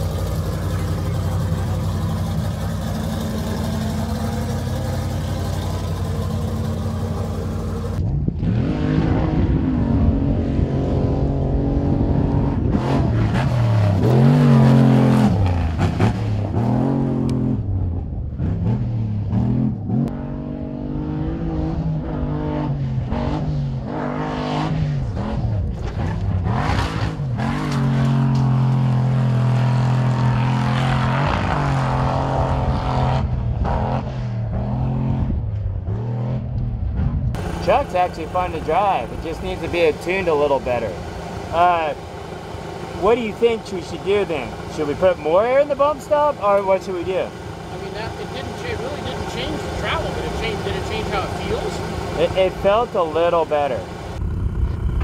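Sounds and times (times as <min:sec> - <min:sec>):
race truck engine revving: 0:00.0 - 0:55.0.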